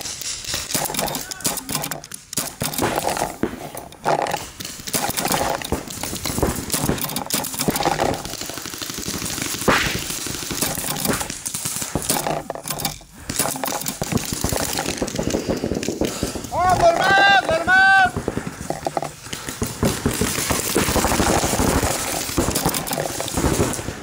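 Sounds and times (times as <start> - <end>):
paintball markers firing: 0.0 - 24.0.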